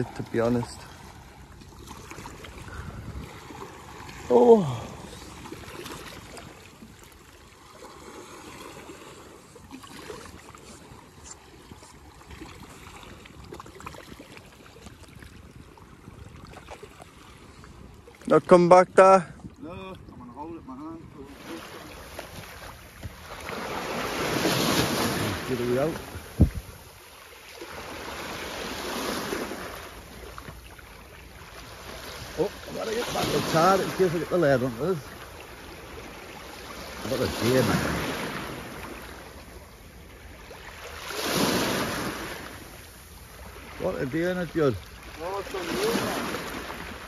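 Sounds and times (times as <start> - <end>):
sea water lapping among rocks: 0.0 - 20.2, 21.2 - 47.0.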